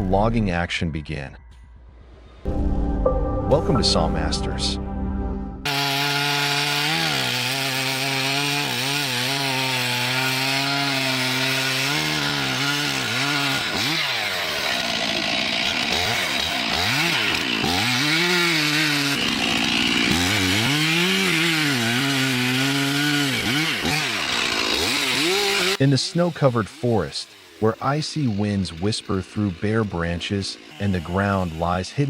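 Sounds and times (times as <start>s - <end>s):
chainsaw engine revving: 5.7s - 32.0s.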